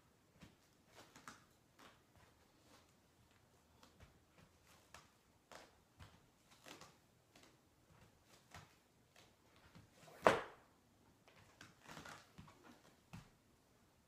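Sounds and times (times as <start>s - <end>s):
taps and shuffles on a mat: 0.3s - 10.6s, 11.2s - 13.4s.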